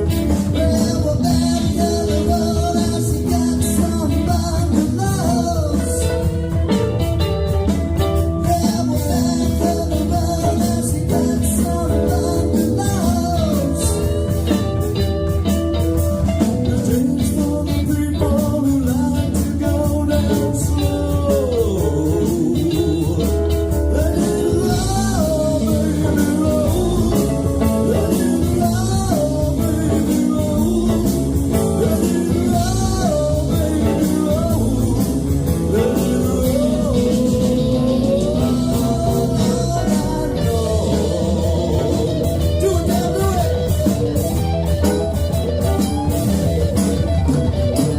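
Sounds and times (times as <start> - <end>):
lead guitar bending notes: 0.0 - 47.9
live blues-rock band: 0.0 - 47.9.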